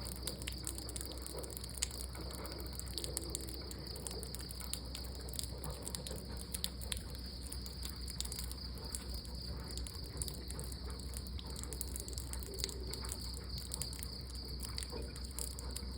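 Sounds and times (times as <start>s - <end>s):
insect chirring: 0.0s - 15.9s
small irregular clicks: 0.0s - 15.9s.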